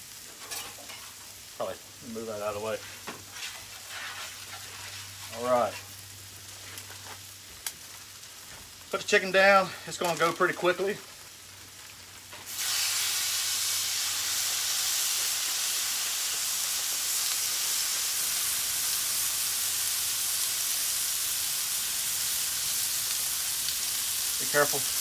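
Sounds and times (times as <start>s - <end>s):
chicken sizzling on a hot griddle: 0.0s - 25.0s.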